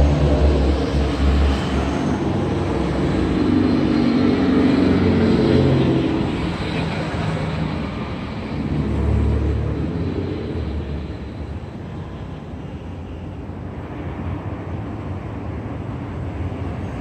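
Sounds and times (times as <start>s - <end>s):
passing traffic engine drone: 0.0s - 17.0s.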